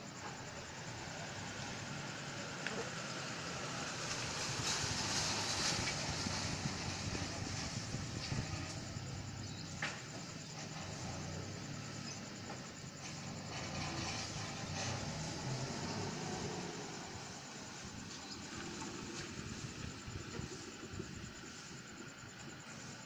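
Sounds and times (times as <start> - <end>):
background rumble: 0.1 - 23.0
hiss: 0.4 - 23.0.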